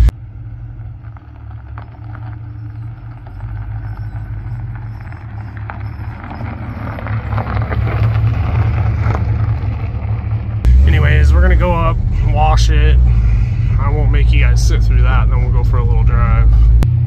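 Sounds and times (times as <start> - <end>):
car engine running: 0.0 - 17.0
tyres crackling over gravel: 0.1 - 16.7.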